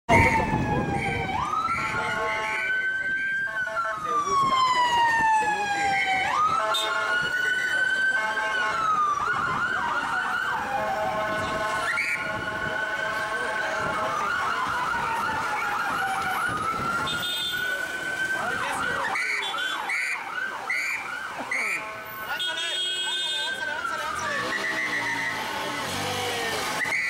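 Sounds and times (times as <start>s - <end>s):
police siren wailing and yelping: 0.1s - 22.3s, 23.0s - 27.0s
traffic rumble: 0.1s - 27.0s.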